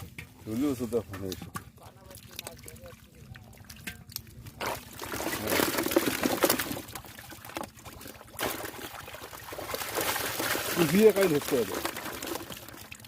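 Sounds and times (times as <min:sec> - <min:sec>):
water splashing and pouring: 0:00.0 - 0:13.0.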